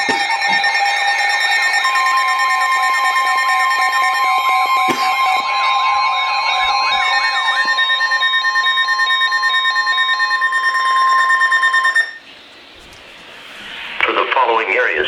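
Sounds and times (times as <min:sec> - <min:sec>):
two-pitch alarm tones: 0:00.0 - 0:14.2.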